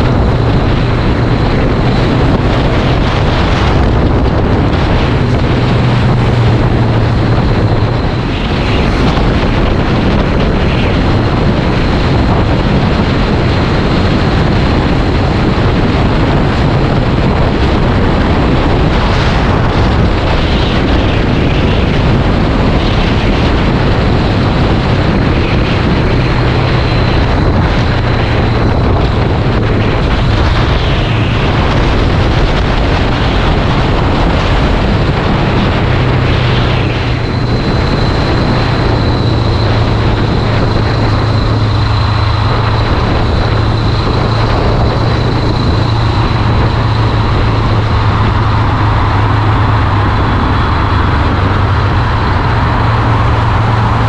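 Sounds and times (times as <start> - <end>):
motorcycle engine humming: 0.0 - 54.0
wind buffeting microphone: 0.0 - 54.0.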